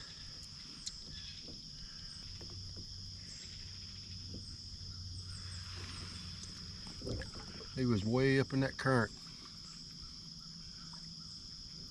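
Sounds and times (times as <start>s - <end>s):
insect trill: 0.0s - 11.9s.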